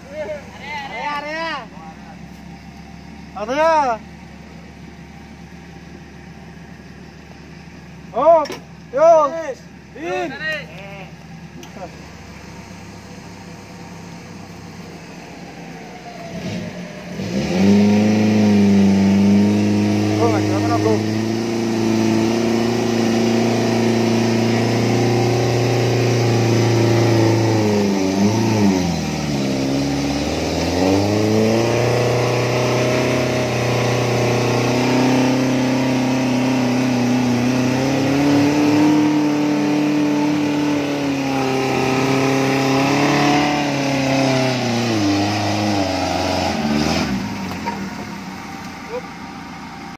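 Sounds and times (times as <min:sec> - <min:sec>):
off-road vehicle engine revving: 0:00.0 - 0:49.9.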